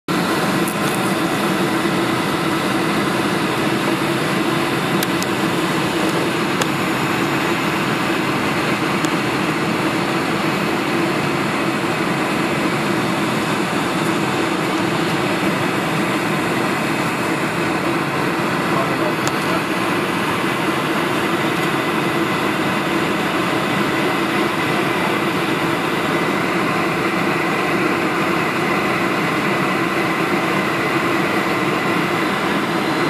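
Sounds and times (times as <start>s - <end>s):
jet engine and airflow in cabin: 0.1s - 33.0s.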